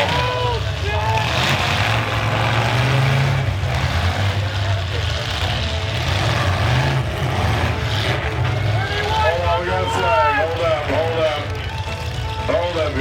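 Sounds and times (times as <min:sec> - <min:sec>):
car engines droning: 0:00.0 - 0:13.0.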